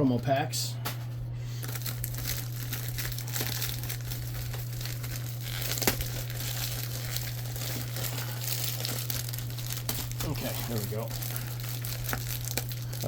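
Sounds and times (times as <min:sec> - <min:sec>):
steady low hum: 0:00.0 - 0:13.0
plastic wrap crinkling and tearing: 0:01.5 - 0:13.0.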